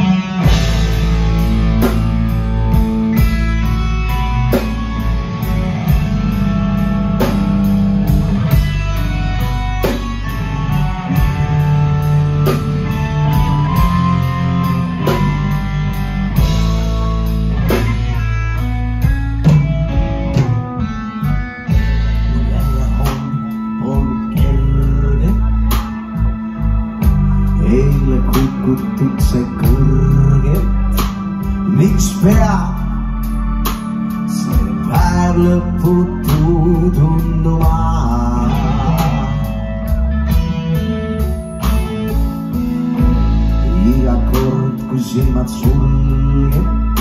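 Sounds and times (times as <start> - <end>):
bass guitar: 0.0 - 47.0
drum kit beat: 0.0 - 47.0
electric guitar: 0.0 - 47.0.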